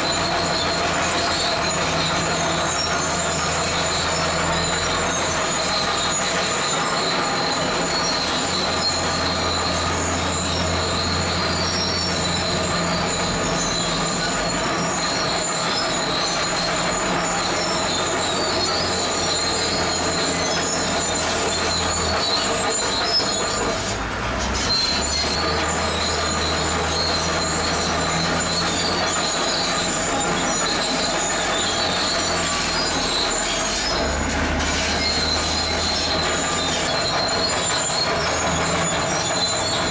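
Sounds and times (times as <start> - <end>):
diesel engine running: 0.0 - 39.9
steel tracks squealing and clattering: 0.0 - 39.9.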